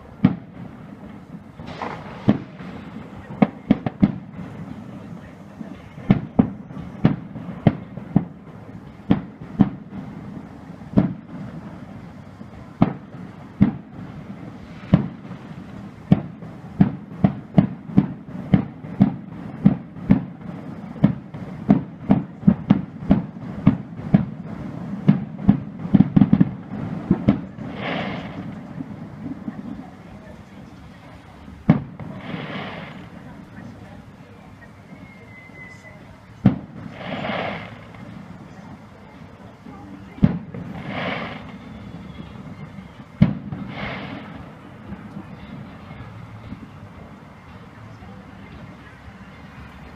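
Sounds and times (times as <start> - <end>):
fireworks bangs: 0.0 - 49.9
fireworks hiss: 0.0 - 49.9.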